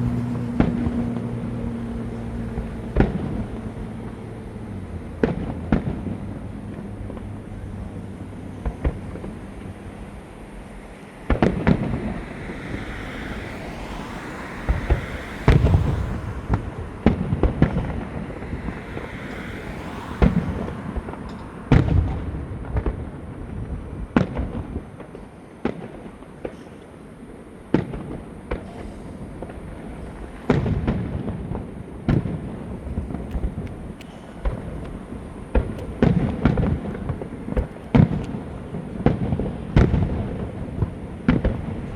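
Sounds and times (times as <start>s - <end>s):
fireworks bangs and booms: 0.4s - 41.9s.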